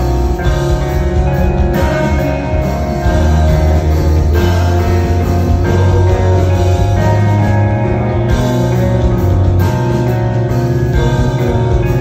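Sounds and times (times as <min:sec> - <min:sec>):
lead singer singing: 0:00.0 - 0:09.1, 0:10.8 - 0:12.0
live rock band playing: 0:00.0 - 0:12.0.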